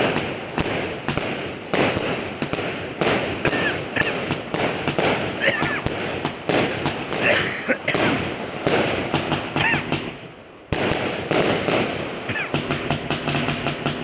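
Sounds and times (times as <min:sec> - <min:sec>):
fireworks crackle: 0:00.0 - 0:14.0
fireworks firing rapidly: 0:00.0 - 0:14.0.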